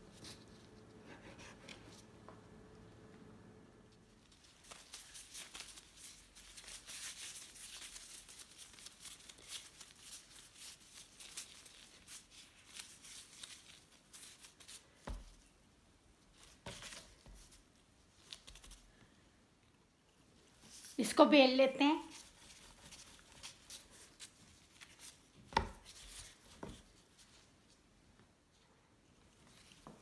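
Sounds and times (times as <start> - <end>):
plastic gloves rustling: 0.0 - 2.2, 3.9 - 30.0.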